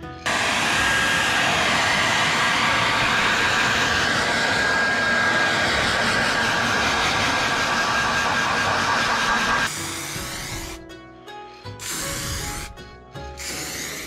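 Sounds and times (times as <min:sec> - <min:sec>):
hair dryer blowing: 0:00.3 - 0:10.8, 0:11.8 - 0:12.8, 0:13.4 - 0:14.0.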